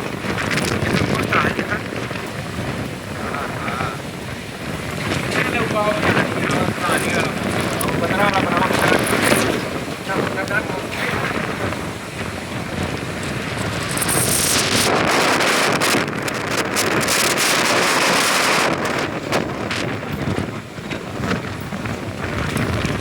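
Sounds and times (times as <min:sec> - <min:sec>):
rain: 0:00.0 - 0:23.0
wind buffeting microphone: 0:00.0 - 0:23.0.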